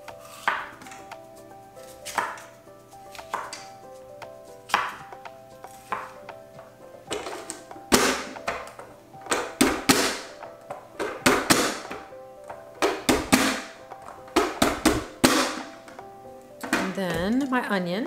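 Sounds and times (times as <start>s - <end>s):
light background music: 0.0s - 18.0s.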